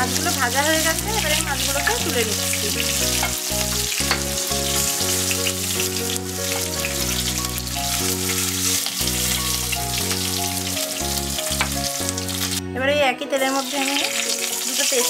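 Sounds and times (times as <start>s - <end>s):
background music with held notes: 0.0s - 15.0s
hot oil sizzling and crackling: 0.0s - 15.0s.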